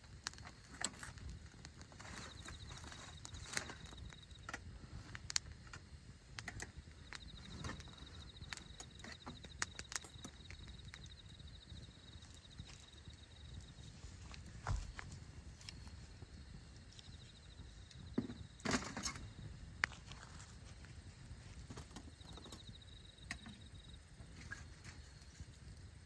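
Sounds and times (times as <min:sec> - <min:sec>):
campfire crackling and popping: 0:00.0 - 0:26.0
cricket trilling: 0:00.1 - 0:26.0.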